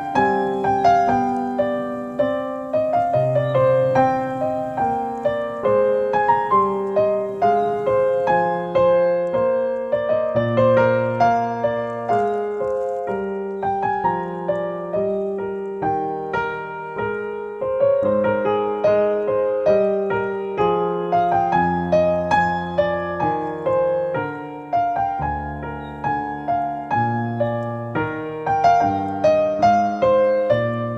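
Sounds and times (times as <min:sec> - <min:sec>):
slow solo piano: 0:00.0 - 0:30.9.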